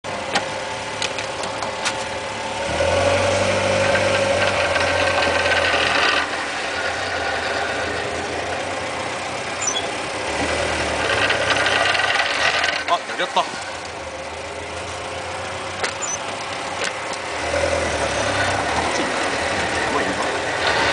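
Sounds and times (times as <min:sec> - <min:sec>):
engine running: 0:00.0 - 0:20.9.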